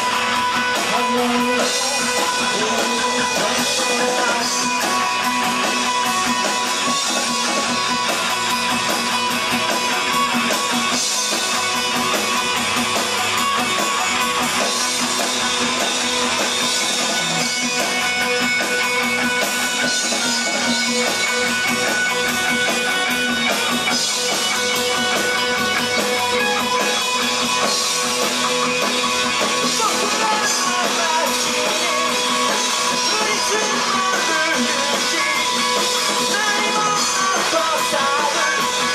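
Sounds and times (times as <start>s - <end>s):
drum kit with cymbals: 0.0s - 38.9s
strummed guitars: 0.0s - 38.9s.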